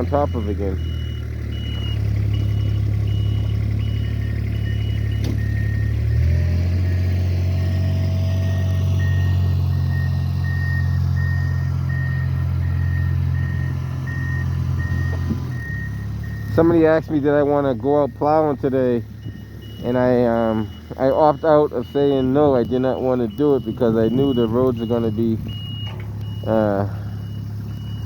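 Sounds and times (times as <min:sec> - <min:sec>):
high-pitched reversing alarm beeping: 0:00.0 - 0:28.0
low-pitched reversing alarm beeping: 0:00.0 - 0:28.0
truck engines running: 0:00.0 - 0:28.0.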